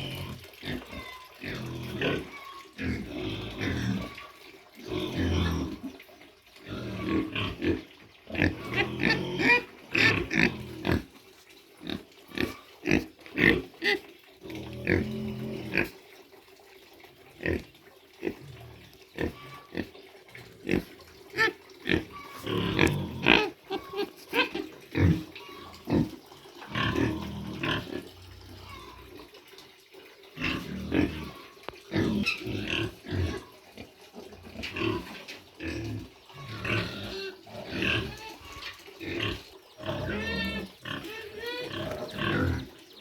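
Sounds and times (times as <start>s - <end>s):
pigs grunting: 0.0s - 6.0s, 6.6s - 11.2s, 11.8s - 16.0s, 17.3s - 29.4s, 30.3s - 42.8s.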